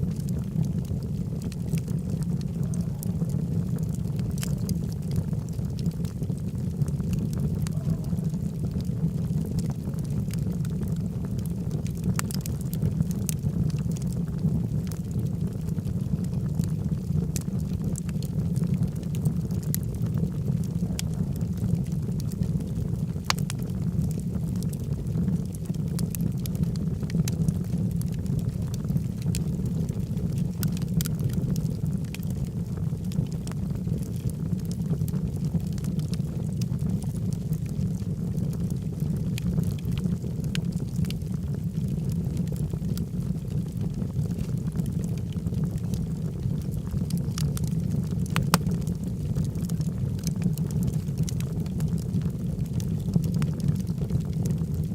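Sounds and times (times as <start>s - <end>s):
fire low rumble: 0.0s - 54.9s
wood crackling and popping: 0.0s - 54.9s.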